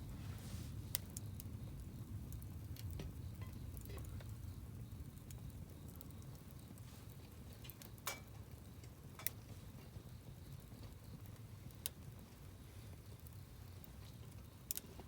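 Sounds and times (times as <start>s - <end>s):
campfire crackling: 0.0s - 15.0s
fire popping: 0.0s - 15.0s.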